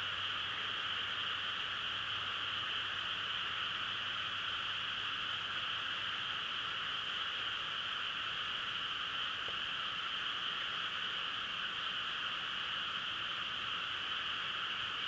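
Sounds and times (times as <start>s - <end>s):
chorus of frogs trilling: 0.0s - 15.0s.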